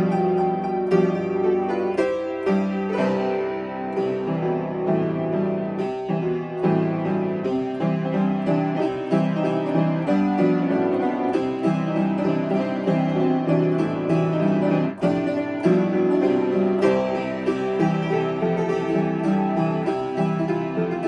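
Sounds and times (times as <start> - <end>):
lively upright piano: 0.0 - 21.0.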